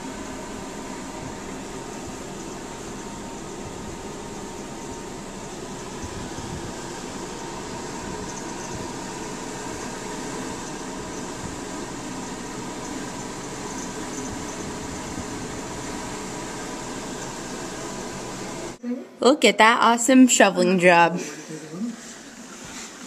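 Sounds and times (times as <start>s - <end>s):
faint constant tone: 0.0s - 22.0s
mechanical hum with fan rush: 0.0s - 23.0s.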